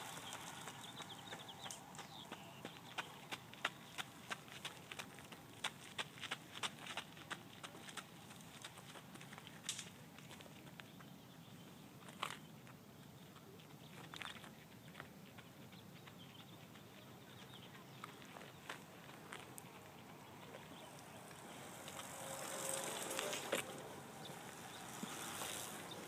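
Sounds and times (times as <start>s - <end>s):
faint outdoor background: 0.0s - 26.0s.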